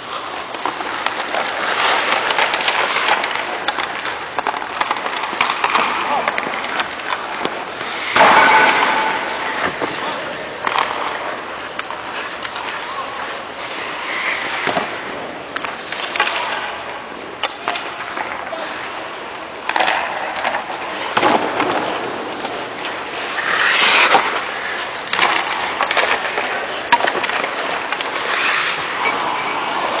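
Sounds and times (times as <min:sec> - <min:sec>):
stick and puck clicks: 0:00.0 - 0:18.6, 0:19.5 - 0:30.0
skate blades scraping ice: 0:00.0 - 0:30.0.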